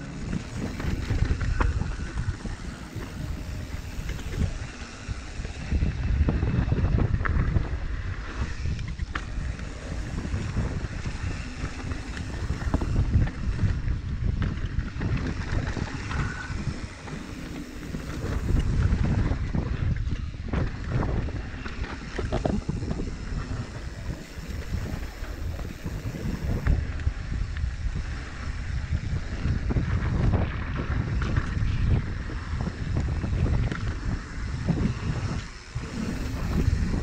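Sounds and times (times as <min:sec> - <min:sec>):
bike knocking and rattling: 0:00.0 - 0:37.0
wind rushing over microphone: 0:00.0 - 0:37.0.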